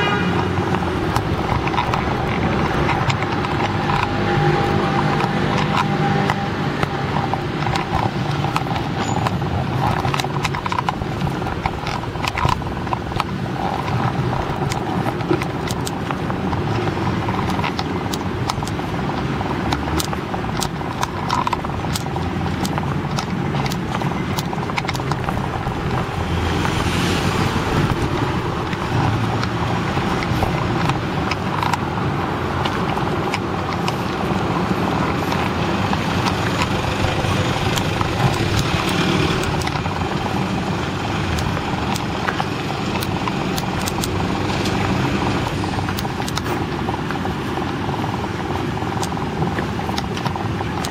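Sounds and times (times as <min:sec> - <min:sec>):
handling clicks and knocks: 0:00.0 - 0:50.9
vehicle engine running: 0:00.0 - 0:50.9.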